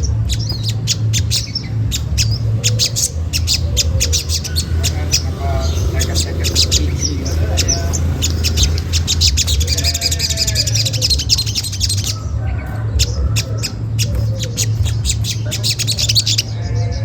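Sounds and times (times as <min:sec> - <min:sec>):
birds chattering calls: 0:00.0 - 0:17.0
steady low hum: 0:00.0 - 0:17.0.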